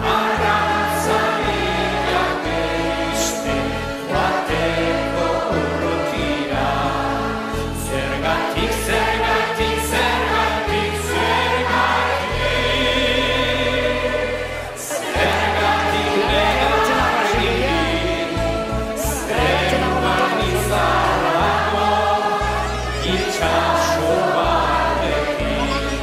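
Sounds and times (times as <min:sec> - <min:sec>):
song with singing and bass: 0:00.0 - 0:26.0.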